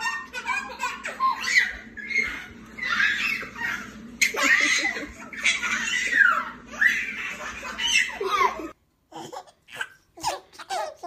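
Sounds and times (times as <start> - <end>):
baby laughing: 0.0 - 11.0.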